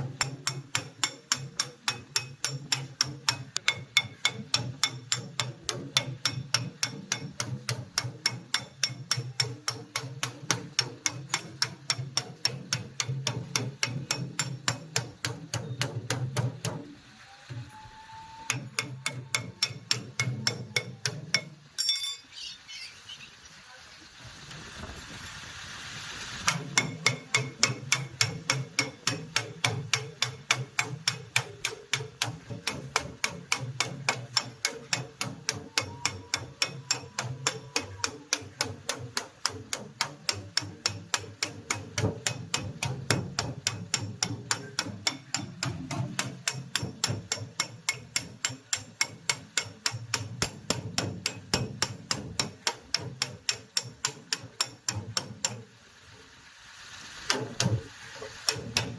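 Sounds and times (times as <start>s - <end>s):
hammer tapping: 0.0s - 16.9s, 18.4s - 22.3s, 26.4s - 55.7s, 57.3s - 58.9s.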